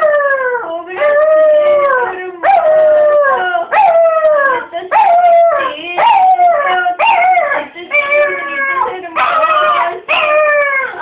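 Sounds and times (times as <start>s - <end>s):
dog howling: 0.0s - 11.0s.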